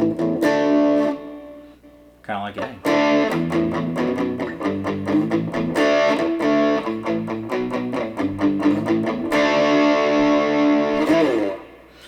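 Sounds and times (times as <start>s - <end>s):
electric guitar riff: 0.0s - 12.0s.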